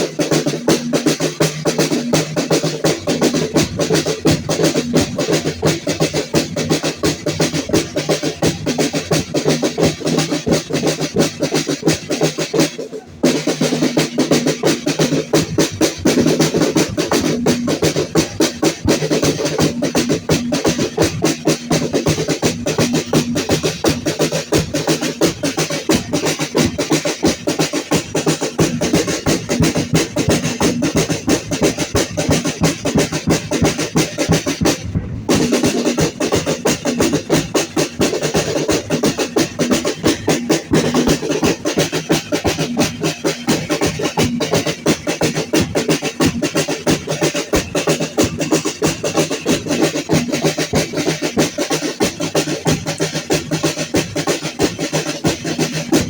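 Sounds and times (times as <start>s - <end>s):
fast drumming with clacking strokes: 0.0s - 56.0s.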